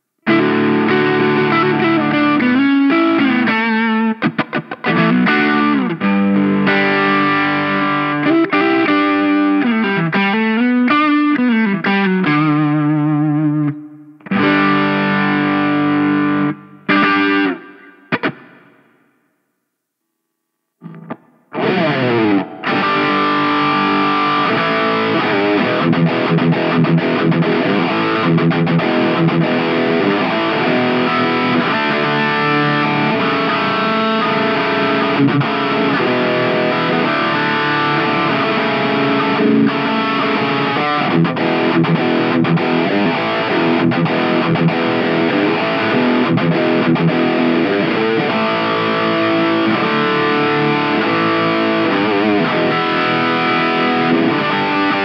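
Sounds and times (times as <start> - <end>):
distorted electric guitar: 0.0 - 19.4, 20.8 - 55.0.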